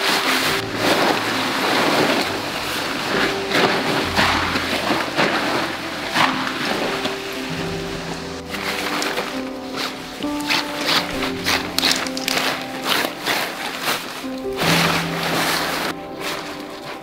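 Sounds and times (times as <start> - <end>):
background music: 0.0 - 17.0
tent fabric rustling and flapping: 0.0 - 17.0.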